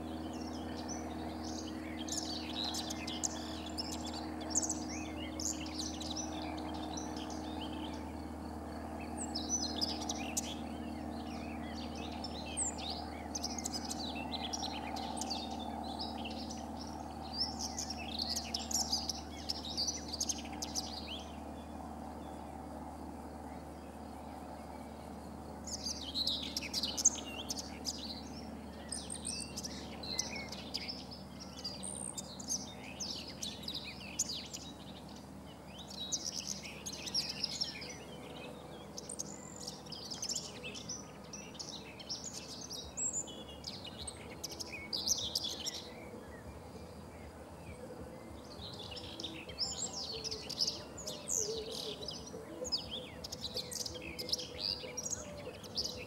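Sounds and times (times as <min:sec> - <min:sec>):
bird warbling song: 0:00.0 - 0:56.0.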